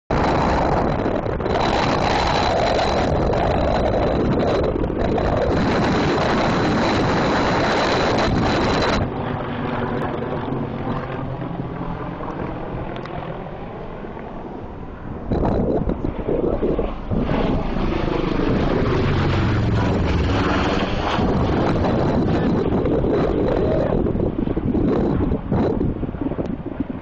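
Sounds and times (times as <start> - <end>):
helicopters flying by low: 0.1 - 27.0.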